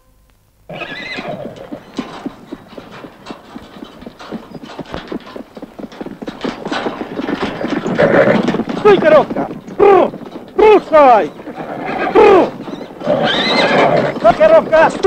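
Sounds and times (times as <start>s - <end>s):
horse hooves clip-clopping: 0.7s - 15.0s.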